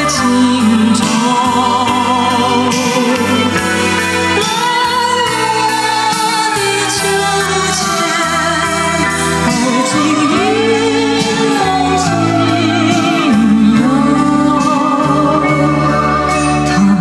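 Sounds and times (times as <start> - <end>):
song over loudspeakers: 0.0 - 17.0.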